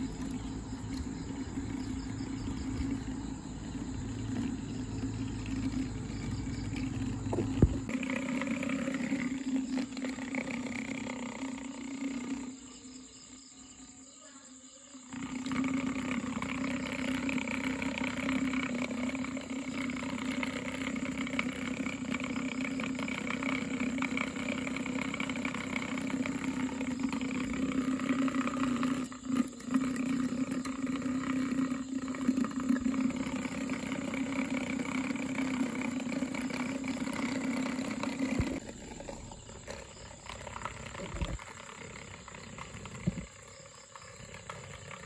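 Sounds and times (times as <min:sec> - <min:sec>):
small motor whirring hum: 0:00.0 - 0:13.5, 0:15.0 - 0:45.0.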